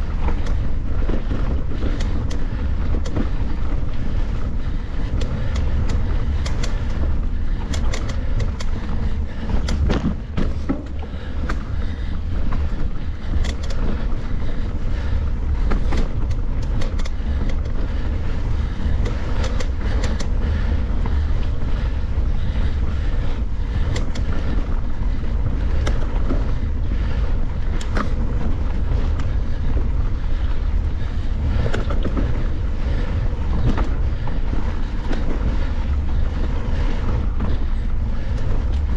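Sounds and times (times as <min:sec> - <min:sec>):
bike clicking and rattling: 0:00.0 - 0:38.9
wind rumble on microphone: 0:00.0 - 0:38.9.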